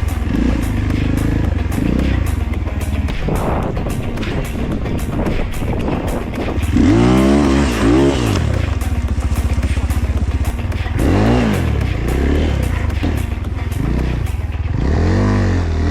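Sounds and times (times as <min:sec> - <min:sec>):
dirt bike engine revving: 0:00.0 - 0:15.9.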